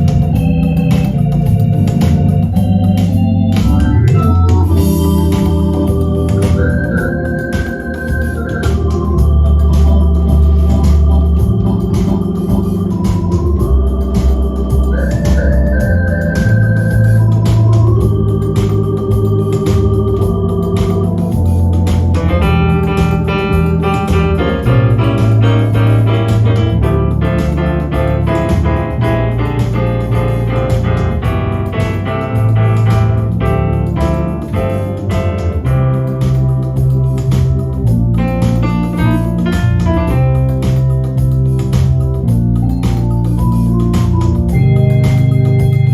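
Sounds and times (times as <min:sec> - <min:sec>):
deep pedal bass: 0:00.0 - 0:45.9
drum machine beat: 0:00.0 - 0:45.9
electronic organ chords: 0:00.0 - 0:45.9
steady percussion rhythm: 0:00.0 - 0:45.9.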